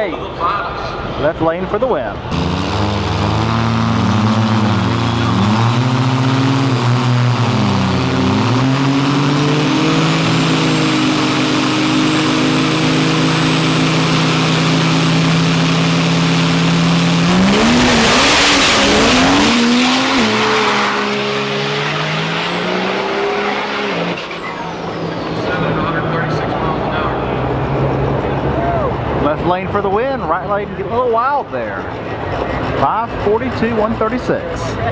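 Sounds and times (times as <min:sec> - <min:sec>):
diesel truck engines revving: 0:00.0 - 0:34.9
tire noise: 0:00.0 - 0:34.9.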